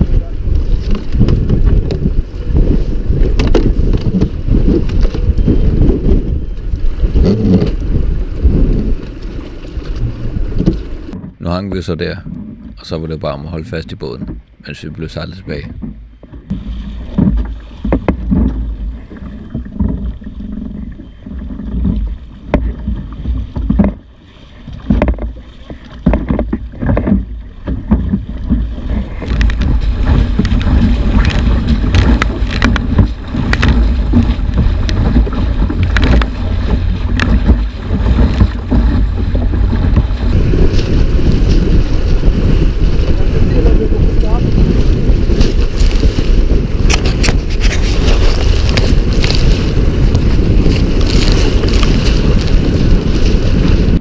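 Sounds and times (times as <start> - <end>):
water splashing against hull: 0.0 - 54.0
wind rushing over microphone: 0.0 - 54.0.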